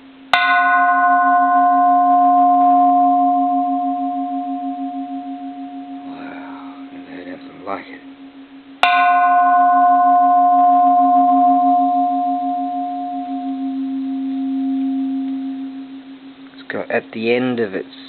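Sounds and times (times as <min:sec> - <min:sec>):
temple bell ringing: 0:00.3 - 0:17.4
pulsing low hum: 0:02.0 - 0:16.6.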